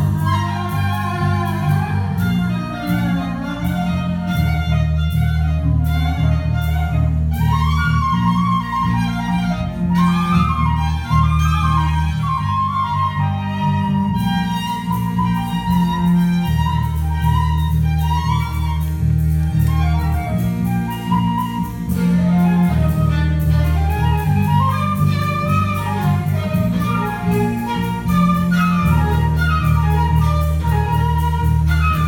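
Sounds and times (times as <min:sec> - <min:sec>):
cello long low notes: 0:00.0 - 0:32.0
violin melody with sliding pitches: 0:00.0 - 0:32.0.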